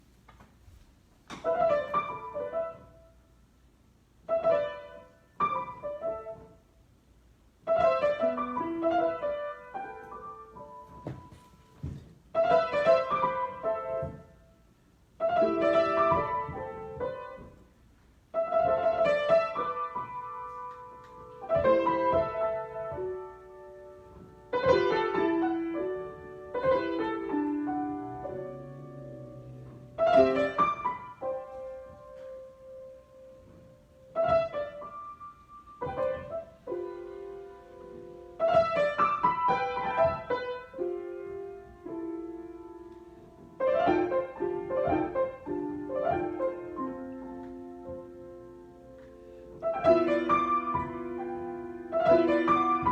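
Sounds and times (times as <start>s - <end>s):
solo piano chords: 1.4s - 52.9s.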